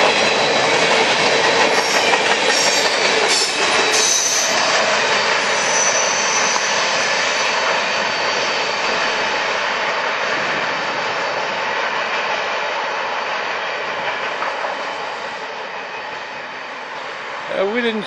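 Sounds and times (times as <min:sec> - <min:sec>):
freight train cars rolling: 0:00.0 - 0:18.0.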